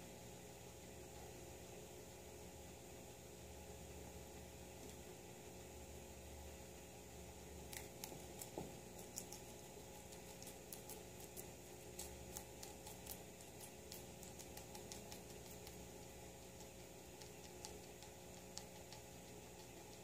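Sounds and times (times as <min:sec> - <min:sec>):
guinea pig chewing greens: 0:00.2 - 0:20.0.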